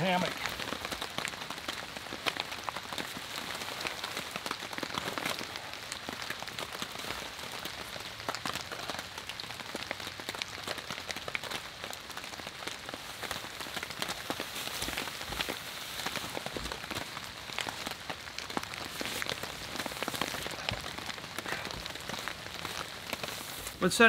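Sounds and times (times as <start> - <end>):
rain on a tarp: 0.0 - 24.0.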